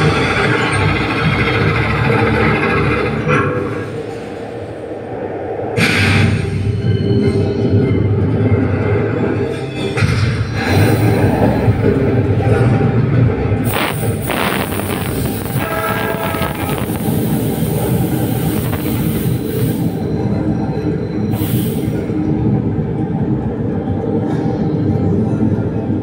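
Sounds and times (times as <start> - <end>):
roller coaster rumble and clatter: 0.0 - 26.0.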